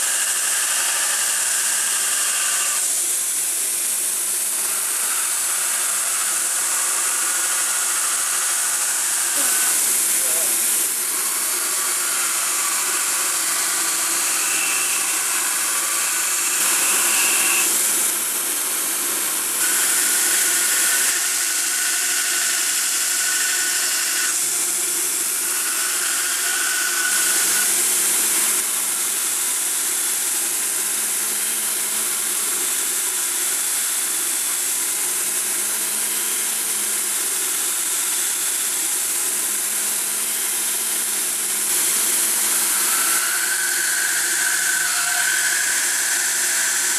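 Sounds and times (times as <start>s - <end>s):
belt grinder grinding metal: 0.0s - 34.5s, 35.4s - 46.9s.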